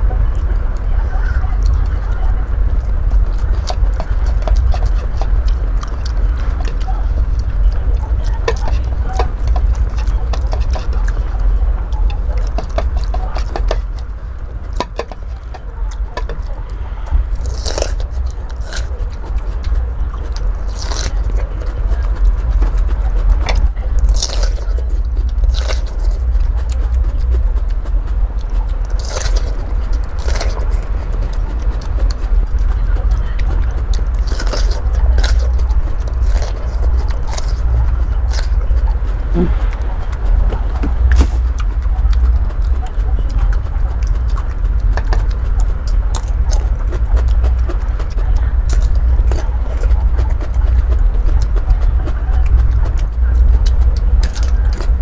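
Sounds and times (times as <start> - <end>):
person crunching raw vegetable: 0.0 - 55.0
steady low rumble: 0.0 - 55.0.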